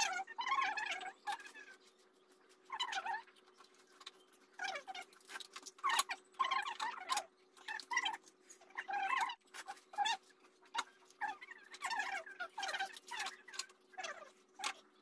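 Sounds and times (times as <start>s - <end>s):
wet chewing: 0.0s - 15.0s
crunching crisp shells: 1.1s - 15.0s.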